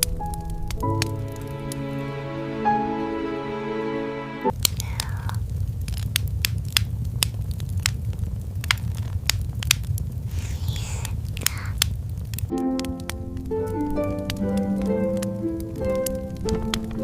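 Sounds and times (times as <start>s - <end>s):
fire crackling: 0.0s - 3.7s, 4.4s - 17.0s.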